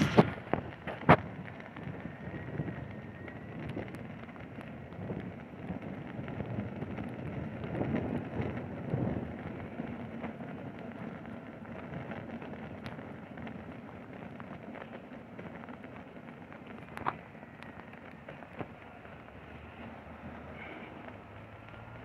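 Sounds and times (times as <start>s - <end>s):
tyre rolling over snow: 3.6s - 22.0s.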